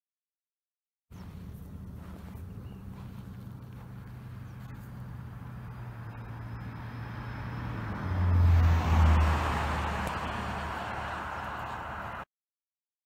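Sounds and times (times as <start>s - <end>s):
vehicle passing by: 1.2s - 12.3s.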